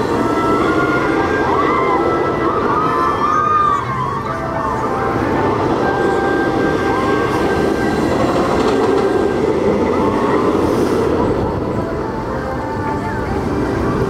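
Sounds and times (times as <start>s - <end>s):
roller coaster train rumbling: 0.0s - 14.0s.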